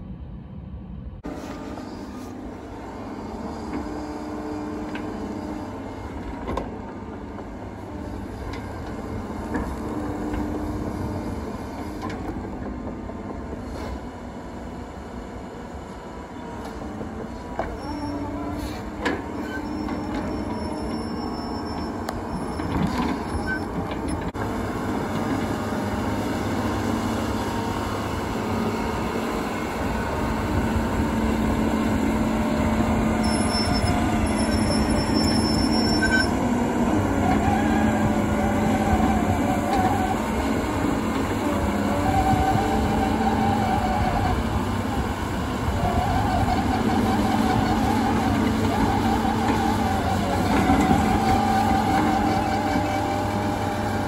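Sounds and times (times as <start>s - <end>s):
diesel engine running under load: 0.0s - 54.0s
steel tracks clanking and squealing: 1.2s - 54.0s.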